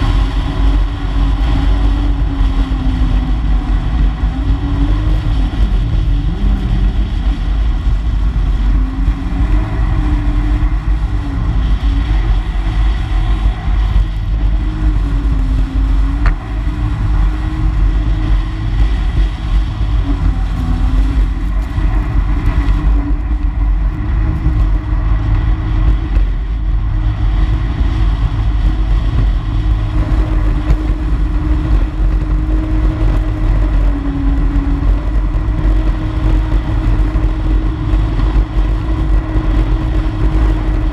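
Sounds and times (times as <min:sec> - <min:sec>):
watercraft engine running: 0:00.0 - 0:40.9
wind rumble on microphone: 0:00.0 - 0:40.9.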